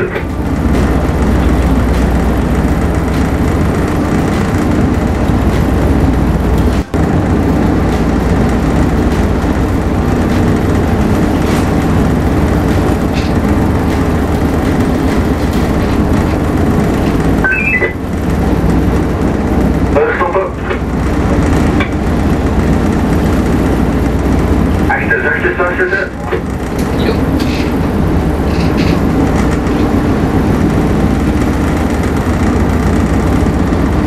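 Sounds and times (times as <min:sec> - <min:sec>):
diesel engines droning: 0:00.0 - 0:34.0.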